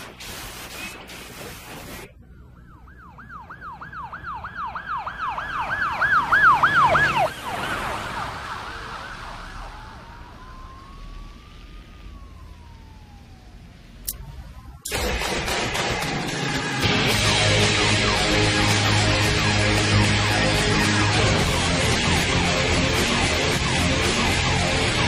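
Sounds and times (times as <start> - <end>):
siren wailing: 1.8 - 25.0
siren yelping: 2.0 - 14.9, 16.2 - 25.0.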